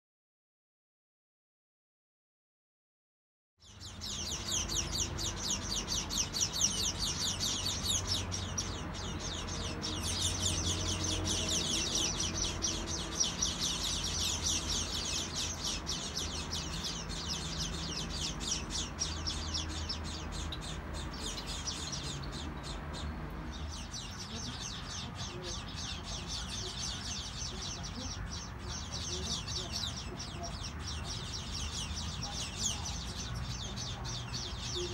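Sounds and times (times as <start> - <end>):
small birds chirping: 3.6 - 34.9.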